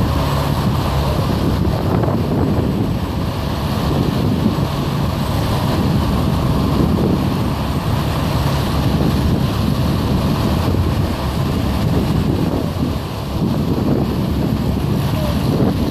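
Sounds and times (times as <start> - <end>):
passing vehicles: 0.0 - 15.9
wind buffeting microphone: 0.0 - 15.9.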